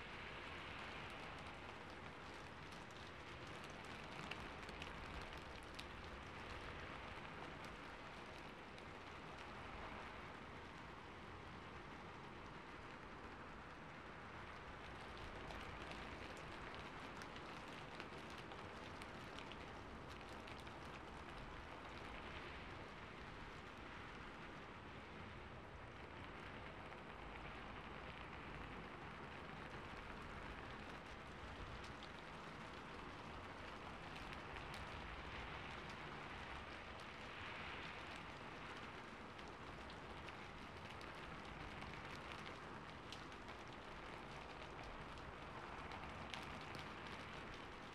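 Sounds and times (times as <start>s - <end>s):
rain on a roof: 0.0s - 47.9s.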